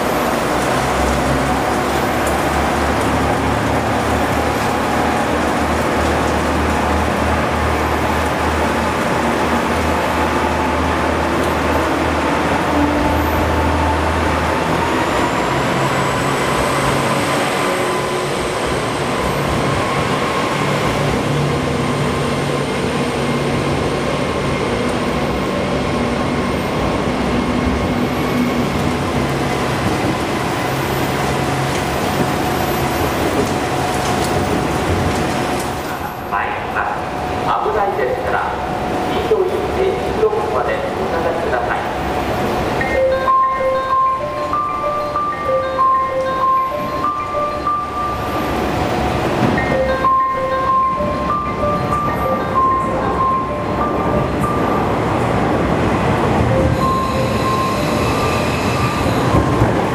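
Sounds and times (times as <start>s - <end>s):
diesel railcar engine hum: 0.0s - 59.9s.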